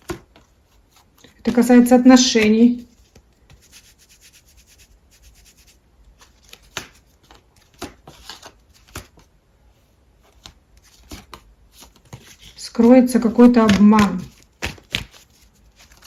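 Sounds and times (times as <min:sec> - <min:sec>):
cards rustling: 0:00.0 - 0:04.4, 0:05.3 - 0:16.0.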